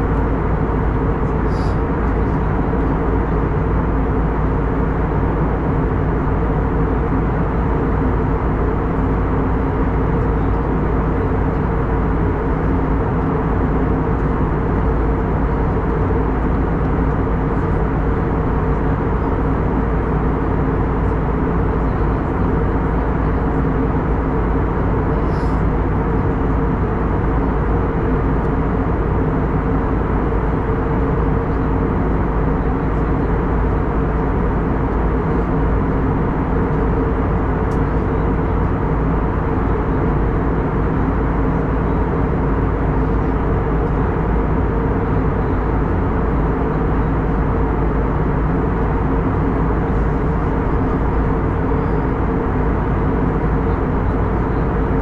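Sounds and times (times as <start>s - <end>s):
airflow and engine noise: 0.0s - 55.0s
low even hum: 0.0s - 55.0s.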